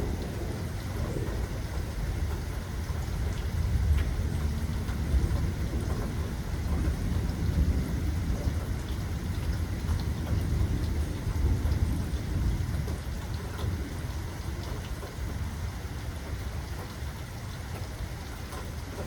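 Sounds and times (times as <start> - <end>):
distant thunder rumble: 0.0 - 16.9
steady rain falling: 0.0 - 19.0.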